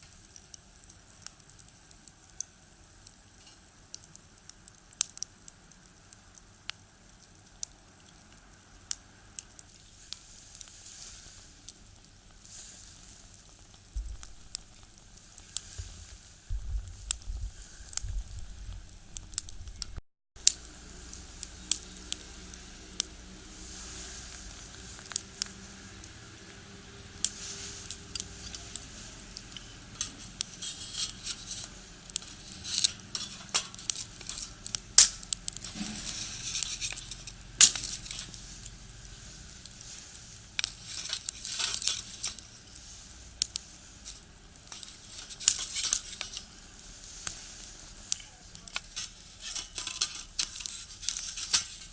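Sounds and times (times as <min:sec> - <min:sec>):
firewood crackling and popping: 0:00.0 - 0:51.9.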